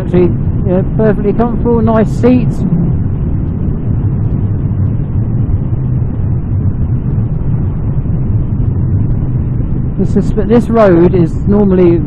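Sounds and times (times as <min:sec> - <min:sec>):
motorcycle engine cruising: 0:00.0 - 0:10.2
wind noise: 0:00.0 - 0:12.0.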